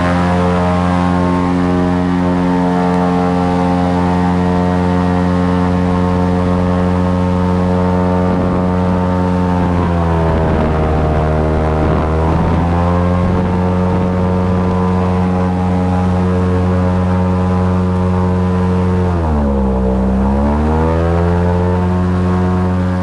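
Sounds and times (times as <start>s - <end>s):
airboat engine drone: 0.0s - 23.0s.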